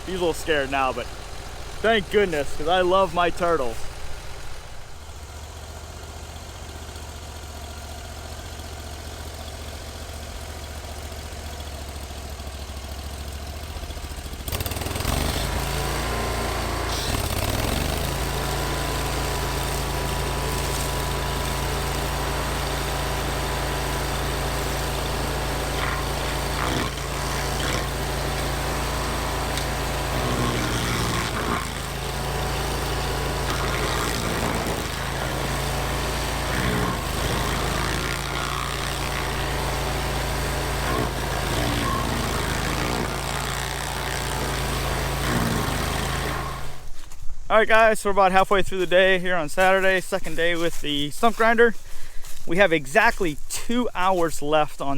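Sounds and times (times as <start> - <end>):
coarse grinding noise: 0.0 - 5.4, 14.5 - 54.9
stump grinder engine running: 0.0 - 47.2.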